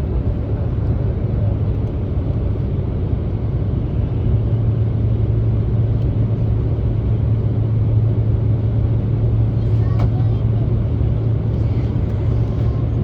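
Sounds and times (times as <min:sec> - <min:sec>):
airliner cabin rumble: 0:00.0 - 0:13.0
constant low hum: 0:00.0 - 0:13.0.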